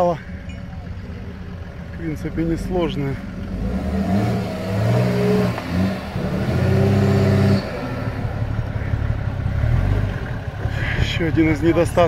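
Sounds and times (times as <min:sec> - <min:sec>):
off-road vehicle engine revving: 0:00.8 - 0:12.0.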